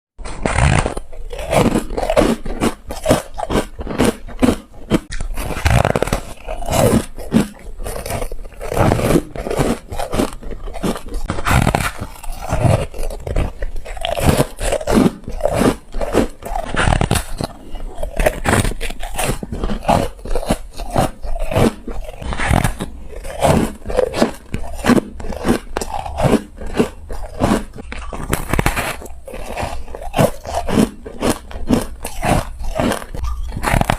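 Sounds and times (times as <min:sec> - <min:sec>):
ice being crunched: 0:00.4 - 0:33.9.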